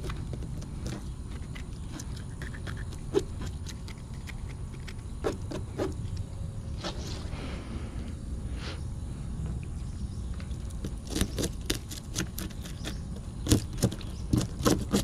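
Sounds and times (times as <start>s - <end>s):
low steady rumble: 0.0s - 14.3s.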